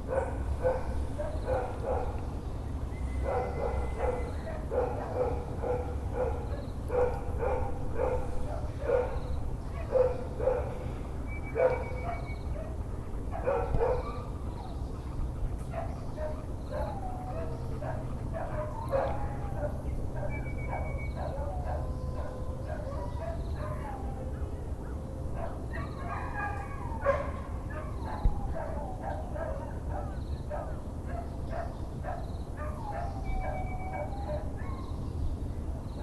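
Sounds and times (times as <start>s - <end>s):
dogs barking and yelping: 0.0s - 35.0s
birds calling: 0.0s - 36.0s
low background hum: 0.0s - 36.0s.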